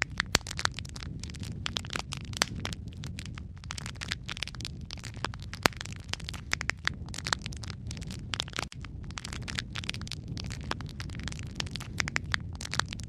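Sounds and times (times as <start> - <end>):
log fire crackling: 0.0 - 13.0.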